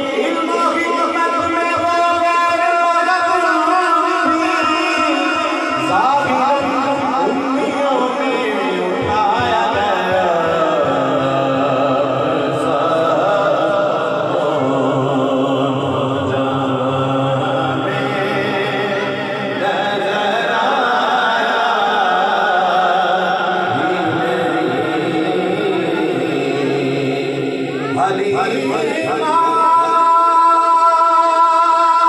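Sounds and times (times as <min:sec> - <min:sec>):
man singing over loudspeaker: 0:00.0 - 0:32.0.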